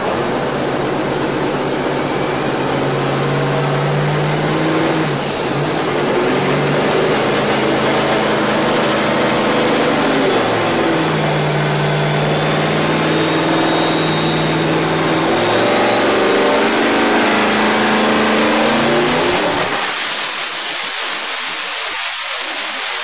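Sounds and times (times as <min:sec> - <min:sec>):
racing engine under full load: 0:00.0 - 0:23.0
turbo whine rising in pitch: 0:00.0 - 0:23.0.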